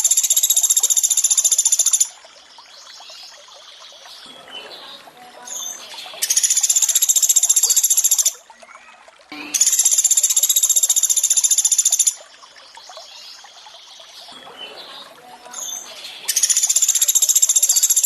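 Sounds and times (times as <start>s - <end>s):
trickling water: 0.0s - 18.0s.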